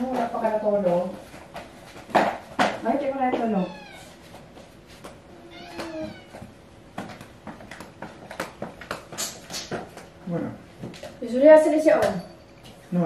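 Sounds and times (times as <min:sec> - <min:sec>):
soft footsteps: 0:00.0 - 0:11.3.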